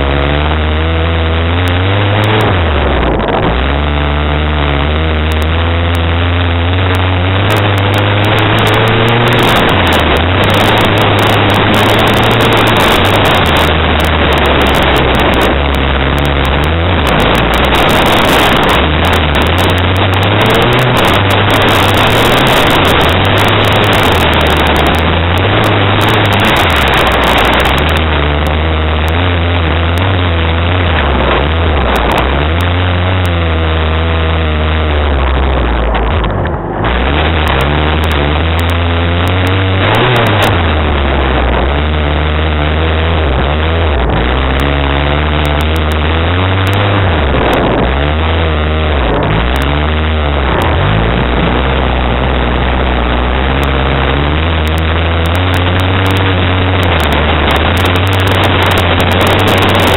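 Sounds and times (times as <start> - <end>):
car engine revving: 0.0 - 59.9
loud wind rushing: 0.0 - 59.9.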